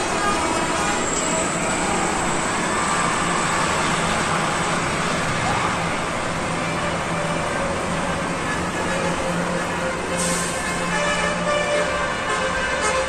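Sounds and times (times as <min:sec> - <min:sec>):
roadside traffic: 0:00.0 - 0:13.0.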